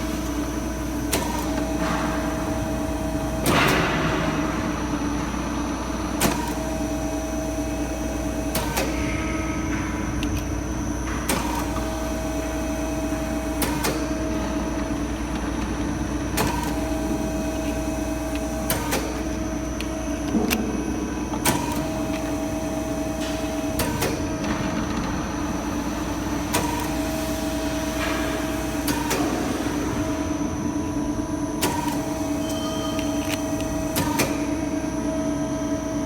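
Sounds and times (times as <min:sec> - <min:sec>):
thread rolling machine humming: 0:00.0 - 0:36.0.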